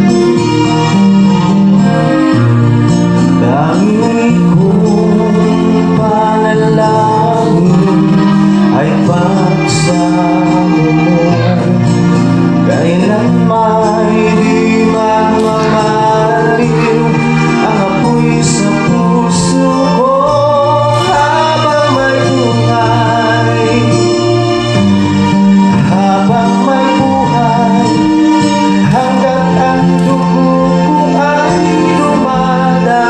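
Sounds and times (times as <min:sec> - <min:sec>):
slow song with singing: 0:00.0 - 0:33.0.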